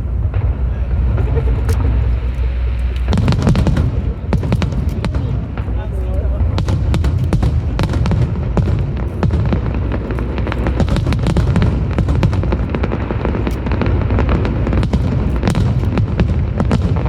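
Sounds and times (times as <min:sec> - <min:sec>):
fireworks bursts rumbling: 0:00.0 - 0:17.0
fireworks crackling pops: 0:00.0 - 0:17.0.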